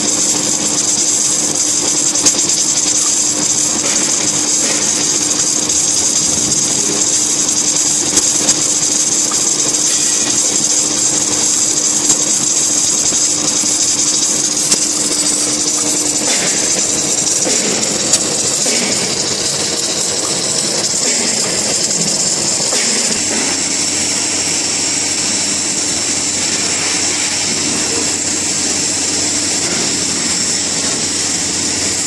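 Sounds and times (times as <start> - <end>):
heavy machinery humming: 0.0 - 32.0.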